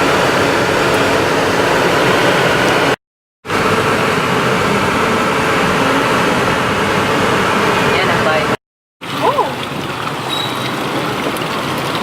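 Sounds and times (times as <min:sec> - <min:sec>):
vehicle road and wind noise: 0:00.0 - 0:12.0.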